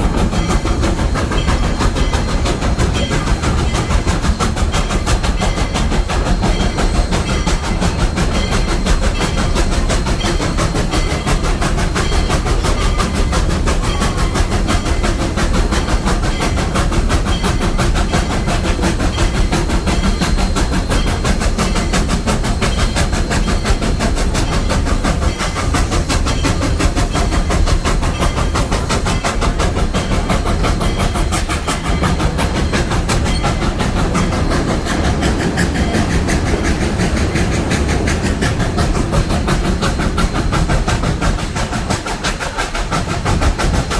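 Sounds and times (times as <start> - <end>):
rattle of train wheels: 0.0 - 43.9
steam train rumbling: 0.0 - 43.9.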